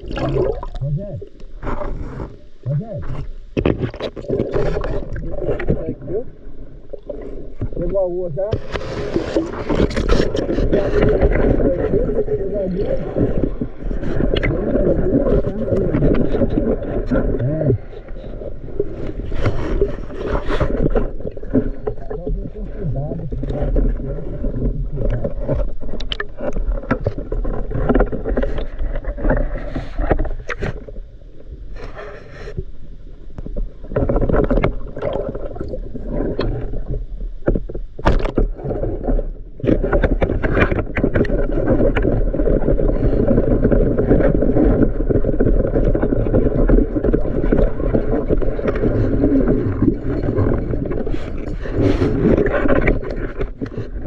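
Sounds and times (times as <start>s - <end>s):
knocks and scrapes: 0.0s - 6.2s, 6.9s - 31.0s, 33.4s - 54.0s
water sloshing and gurgling: 0.0s - 54.0s.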